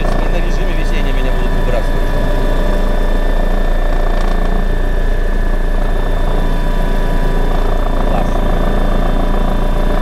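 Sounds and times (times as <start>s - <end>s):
helicopter rotor rumble: 0.0s - 10.0s
turbine engine whine: 0.0s - 10.0s.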